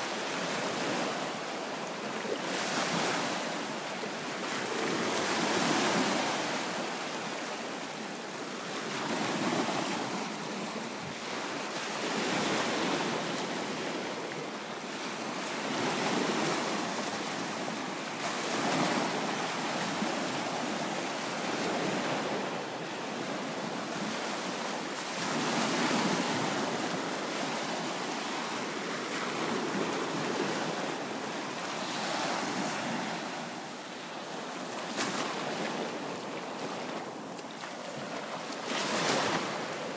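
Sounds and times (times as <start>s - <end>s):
waves washing up a beach: 0.0s - 39.9s.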